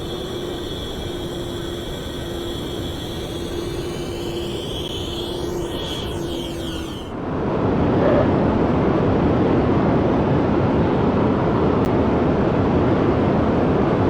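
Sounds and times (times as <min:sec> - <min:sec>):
jet engine roar: 0:00.0 - 0:11.4.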